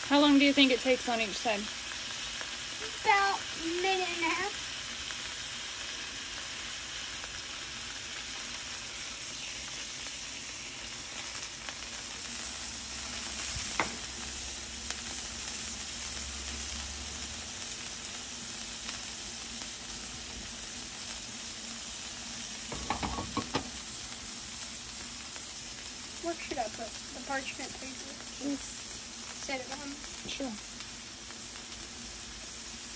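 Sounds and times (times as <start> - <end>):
food sizzling on a griddle: 0.0 - 32.9.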